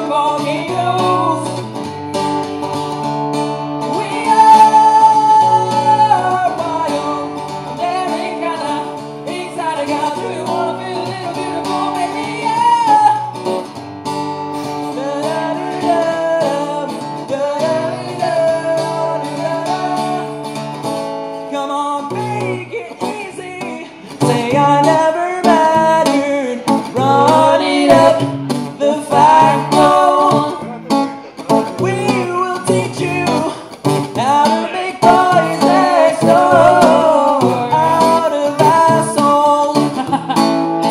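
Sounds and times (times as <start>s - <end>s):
person singing: 0.0s - 1.9s, 3.8s - 13.4s, 14.9s - 20.6s, 21.5s - 40.9s
guitar playing chords: 0.0s - 40.9s.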